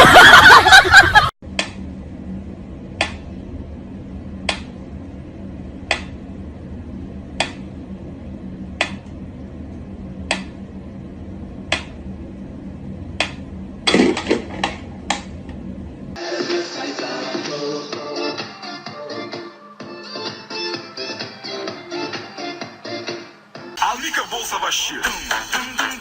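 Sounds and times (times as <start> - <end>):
steady low hum: 0.0 - 22.8.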